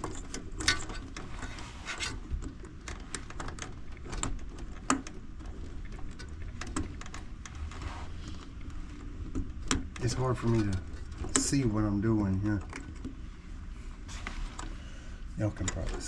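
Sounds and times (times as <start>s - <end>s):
hands handling wires: 0.0s - 11.7s, 12.5s - 14.8s.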